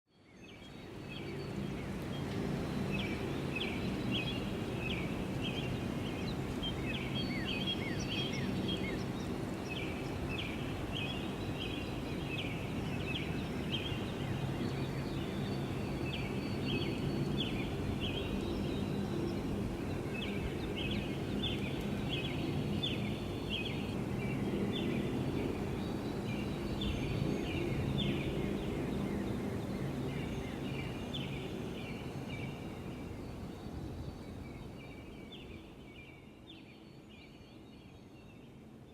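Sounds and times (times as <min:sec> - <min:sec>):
small birds chirping: 0:00.4 - 0:37.4.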